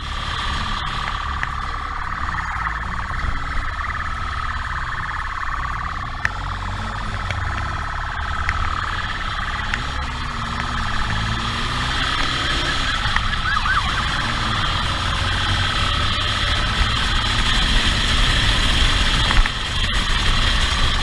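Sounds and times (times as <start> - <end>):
motorcycle engine rumble: 0.0 - 21.0
police motorcycle siren: 0.0 - 21.0
wind: 0.0 - 21.0.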